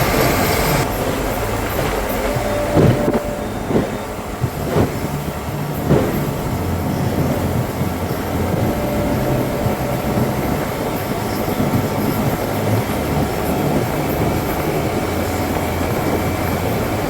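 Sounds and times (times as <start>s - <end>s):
loud thumps: 0.0s - 17.0s
motorboat engine drone: 0.0s - 17.0s
rushing wind and water: 0.0s - 17.0s.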